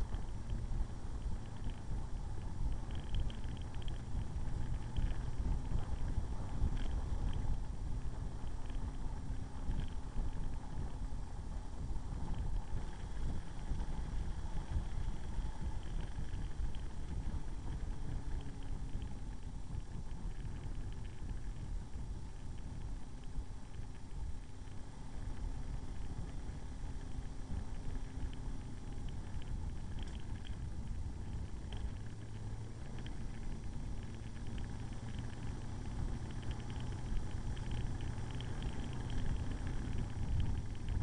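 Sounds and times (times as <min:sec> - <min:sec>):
motorcycle engine running: 0:00.0 - 0:41.0
wind rumbling on microphone: 0:00.0 - 0:41.0.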